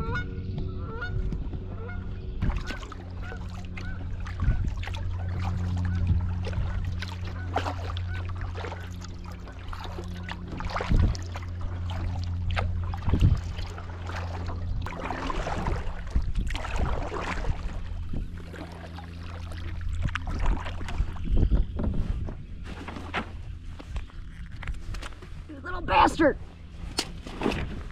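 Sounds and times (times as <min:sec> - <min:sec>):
steady low hum: 0:00.0 - 0:27.9
paddle strokes swishing in water: 0:00.9 - 0:27.9.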